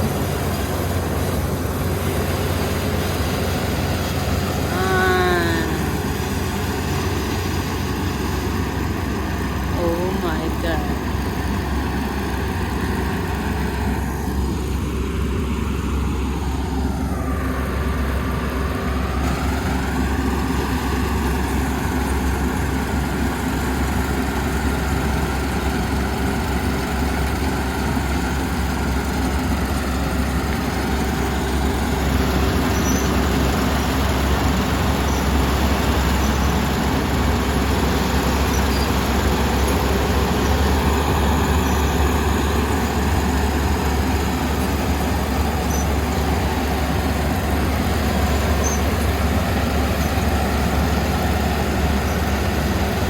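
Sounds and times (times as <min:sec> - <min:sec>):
combine harvester engine running: 0:00.0 - 0:53.0.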